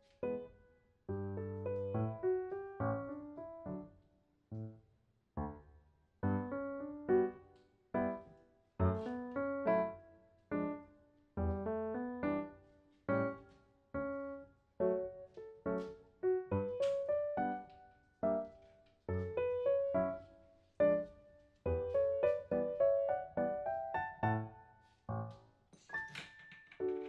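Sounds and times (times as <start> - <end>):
soft piano music: 0.0 - 4.8, 6.2 - 27.0.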